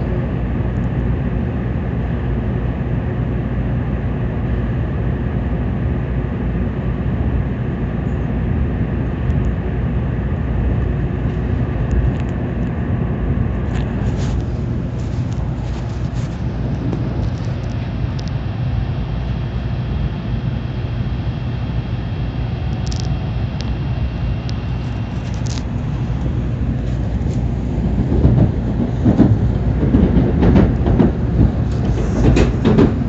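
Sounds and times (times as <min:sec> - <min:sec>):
train rumbling at speed: 0:00.0 - 0:33.0.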